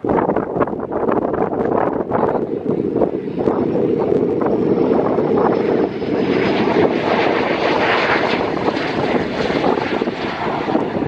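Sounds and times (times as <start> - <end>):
aircraft engine rushing: 0.0 - 11.0.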